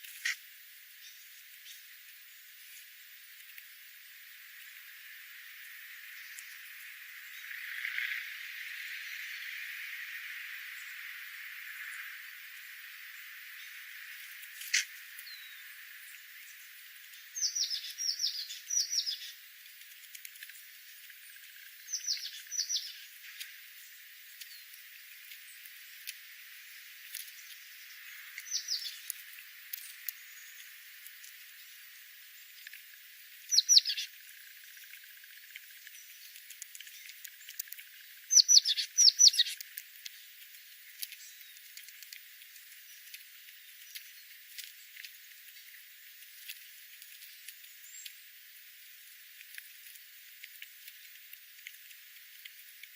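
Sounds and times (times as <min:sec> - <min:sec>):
wild bird chirping: 0:04.0 - 0:48.3.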